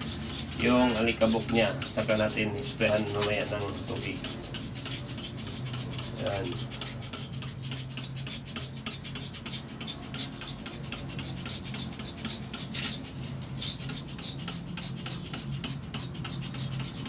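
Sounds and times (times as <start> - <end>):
brush scrubbing: 0.0 - 17.0.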